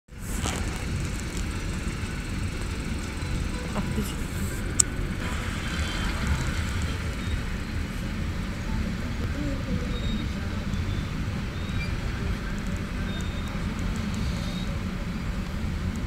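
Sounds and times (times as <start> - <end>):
traffic idling rumble: 0.1 - 16.0.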